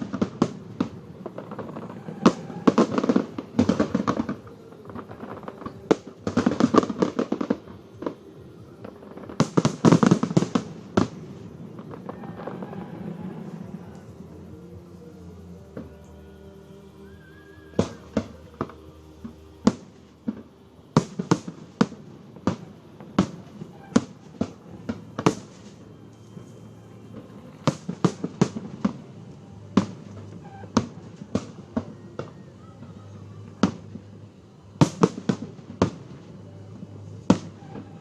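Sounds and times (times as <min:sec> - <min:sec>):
fireworks bursting: 0:00.0 - 0:38.0.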